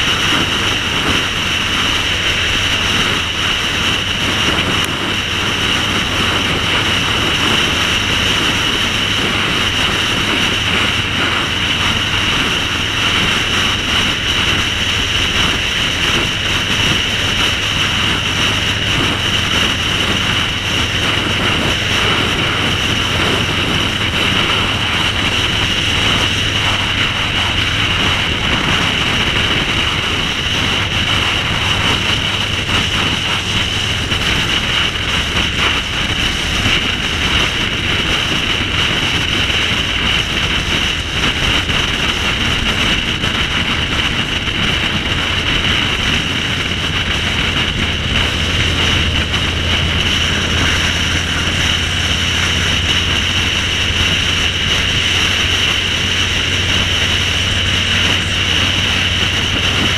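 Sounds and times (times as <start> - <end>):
motorcycle running steadily: 0.0 - 59.9
wind rushing over microphone: 0.0 - 59.9.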